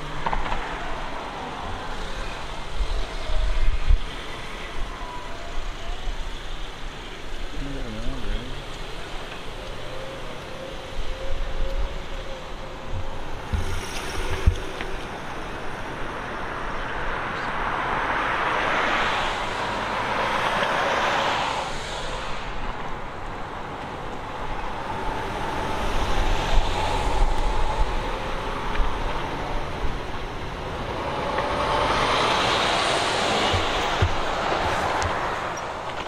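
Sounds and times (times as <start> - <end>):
vehicles passing by: 0.0 - 36.0.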